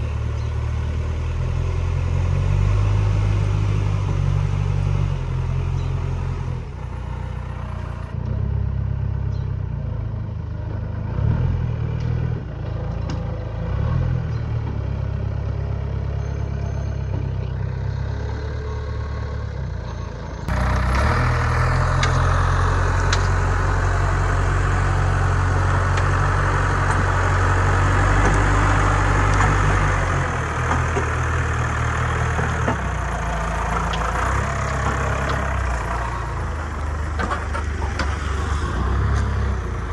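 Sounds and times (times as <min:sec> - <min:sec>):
diesel loader engine droning: 0:00.0 - 0:39.9.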